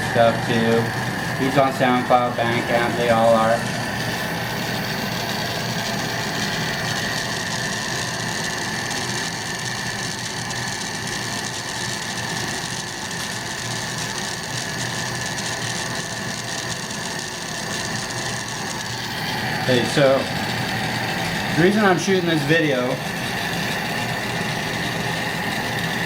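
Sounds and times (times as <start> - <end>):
shop equipment hissing and humming: 0.0 - 26.0.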